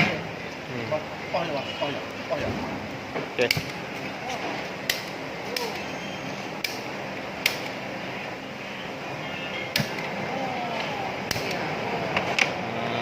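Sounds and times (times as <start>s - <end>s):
hubbub of voices: 0.0s - 13.0s.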